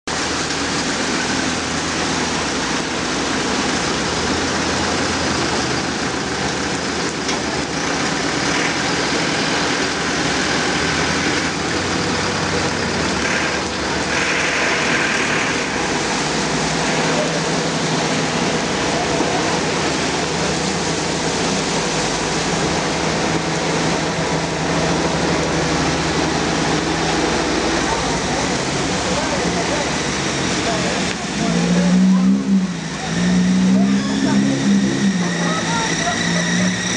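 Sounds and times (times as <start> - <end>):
truck engines running: 0.0 - 36.9
tyres spraying water: 0.0 - 36.9
rain hiss: 0.1 - 36.9.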